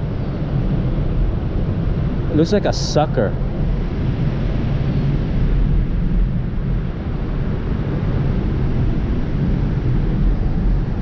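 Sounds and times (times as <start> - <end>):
low rumble of traffic: 0.0 - 11.0
wind buffeting the microphone: 0.0 - 11.0.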